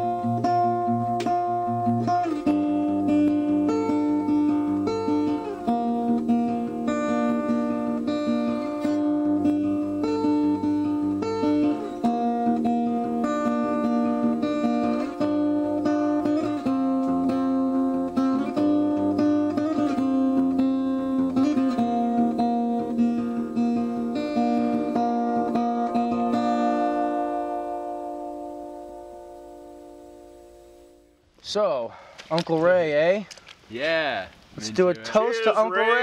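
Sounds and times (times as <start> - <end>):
acoustic guitar strumming chords: 0.0 - 31.2.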